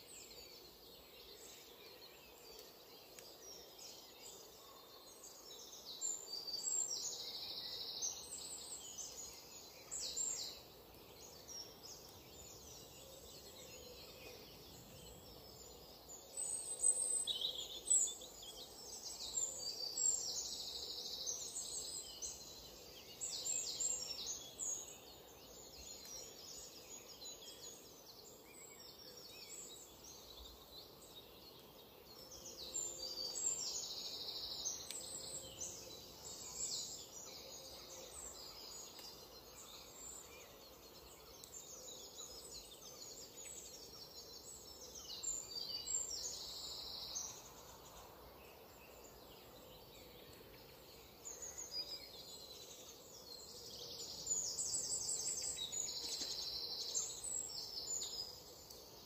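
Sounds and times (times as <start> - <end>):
faint background noise: 0.0 - 59.0.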